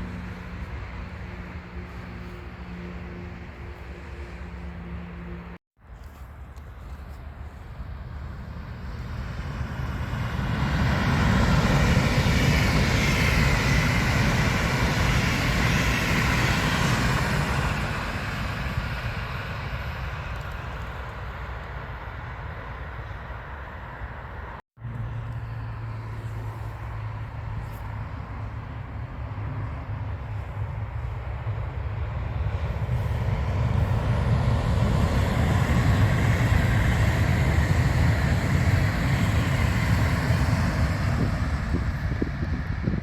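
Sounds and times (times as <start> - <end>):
train passing: 0.0 - 5.6, 6.6 - 43.0.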